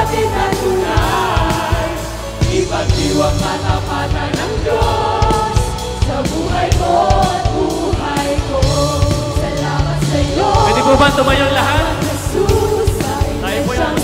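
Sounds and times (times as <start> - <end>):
band drum beats and bass: 0.0 - 14.0
mixed group singing in harmony: 0.0 - 14.0.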